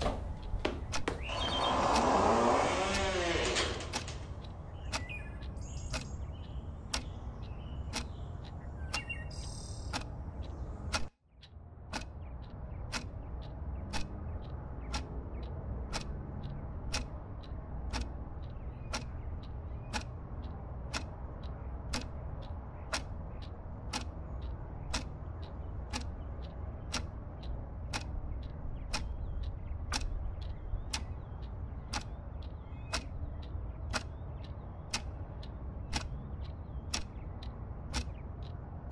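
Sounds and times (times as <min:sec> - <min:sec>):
sharp ticks: 0:00.2 - 0:38.9.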